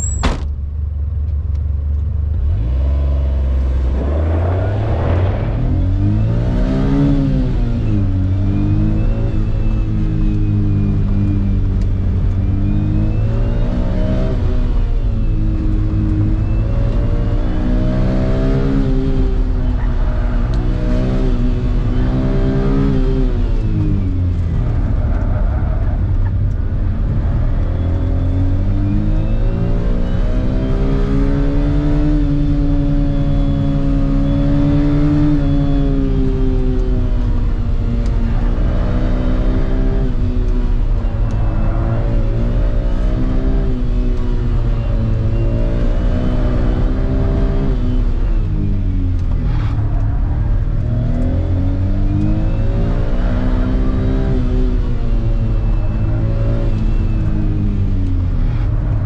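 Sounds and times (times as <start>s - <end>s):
car engine revving: 2.2s - 59.0s
turbo whine: 3.7s - 59.0s.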